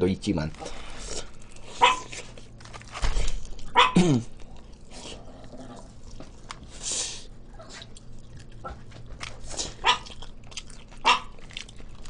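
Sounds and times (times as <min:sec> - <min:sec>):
crunchy biting and chewing: 0:00.5 - 0:06.9, 0:07.6 - 0:12.0.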